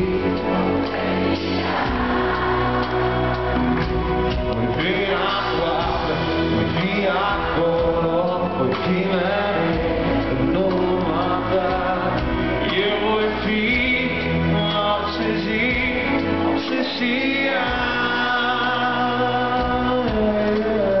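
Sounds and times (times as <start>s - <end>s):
man singing: 0.0s - 1.3s, 4.5s - 21.0s
live rock band: 0.0s - 21.0s.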